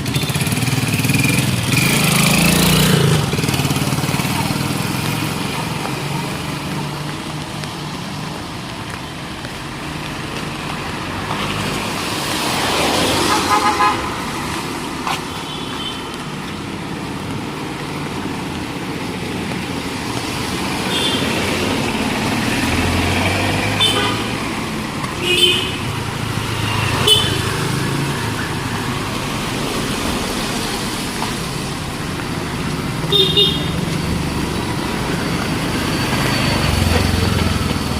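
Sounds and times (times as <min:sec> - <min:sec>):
street traffic passing: 0:00.0 - 0:37.9.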